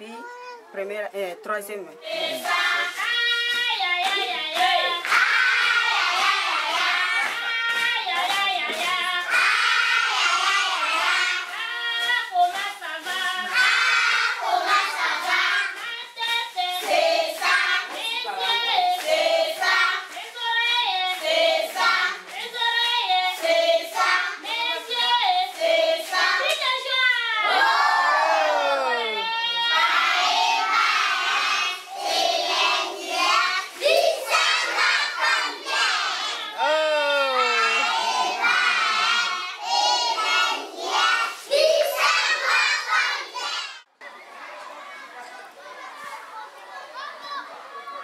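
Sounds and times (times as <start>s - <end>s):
children singing together: 2.0s - 36.7s, 37.4s - 43.9s.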